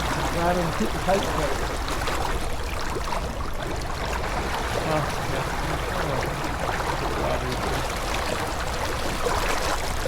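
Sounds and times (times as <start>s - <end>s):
water rushing along boat hull: 0.0s - 10.0s.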